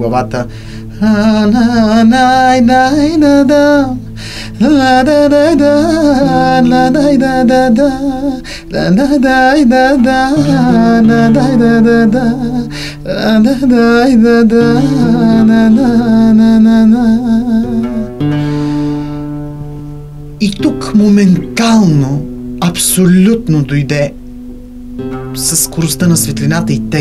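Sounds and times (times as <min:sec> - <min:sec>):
man singing ornamented melody: 0:00.0 - 0:19.2, 0:20.4 - 0:24.1.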